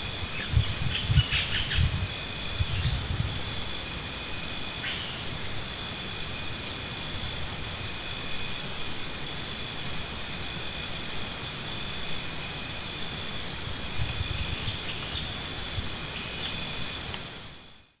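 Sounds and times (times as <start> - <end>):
insects chirring: 0.0 - 18.0
pulsing insect trill: 0.1 - 18.0.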